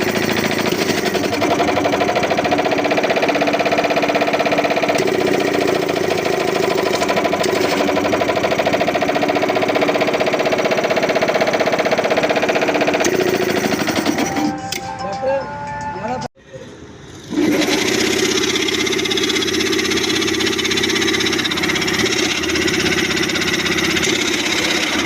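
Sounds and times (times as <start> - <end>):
air compressor pulsing: 0.0 - 14.5, 16.8 - 25.0.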